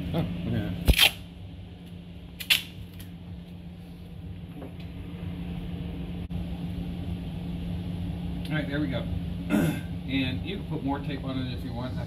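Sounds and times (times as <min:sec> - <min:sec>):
air handler humming: 0:00.0 - 0:12.0.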